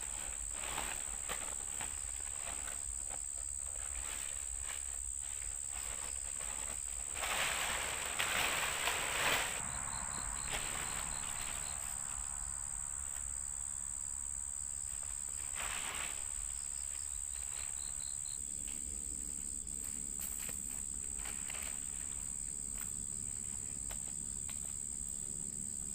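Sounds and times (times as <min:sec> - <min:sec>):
cricket chirping: 0:00.0 - 0:25.9
cricket trilling: 0:00.0 - 0:25.9
rustling: 0:00.0 - 0:25.9.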